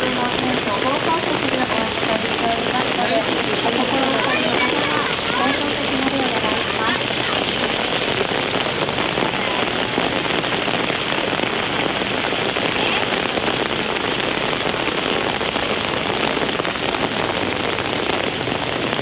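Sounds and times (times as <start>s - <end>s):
torrential rain: 0.0s - 19.0s.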